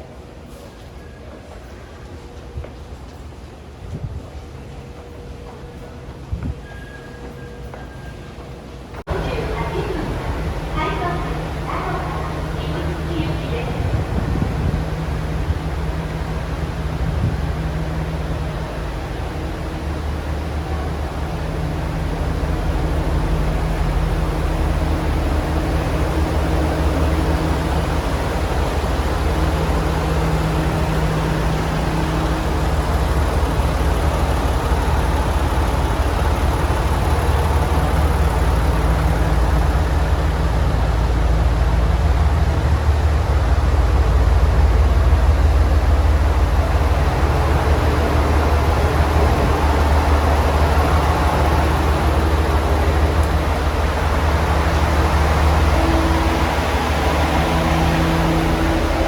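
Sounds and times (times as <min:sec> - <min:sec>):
diesel railcar engine rumble: 0:00.0 - 0:59.0.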